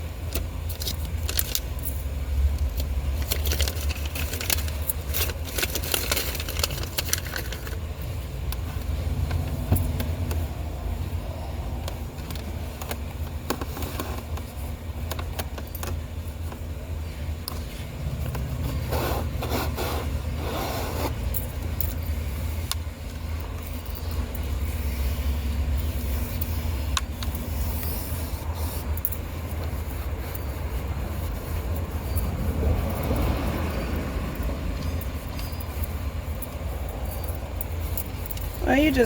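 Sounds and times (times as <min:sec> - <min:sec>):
vacuum running with low rumble: 0:00.0 - 0:39.0.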